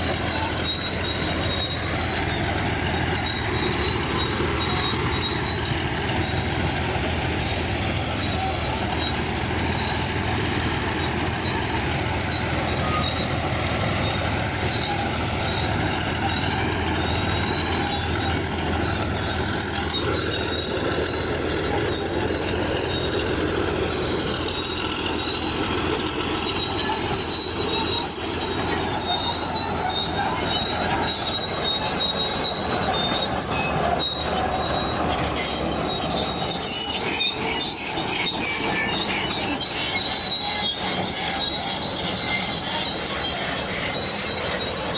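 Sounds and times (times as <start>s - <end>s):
diesel engine running: 0.0s - 44.9s
high squeal: 0.0s - 44.9s
steel tracks clanking: 0.0s - 44.9s.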